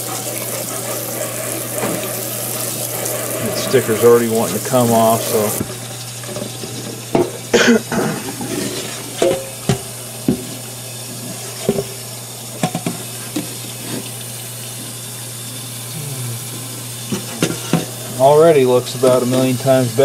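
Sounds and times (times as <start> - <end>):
tap water running in sink: 0.0 - 20.0.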